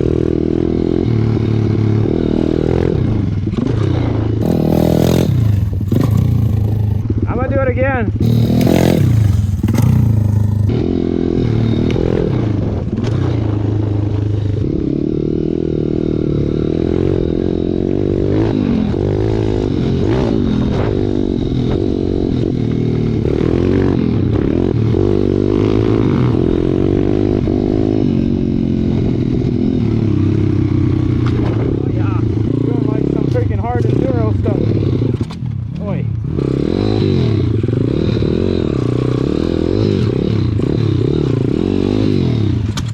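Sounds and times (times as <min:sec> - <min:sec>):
motorbike engine revving: 0:00.0 - 0:35.5, 0:36.2 - 0:42.9.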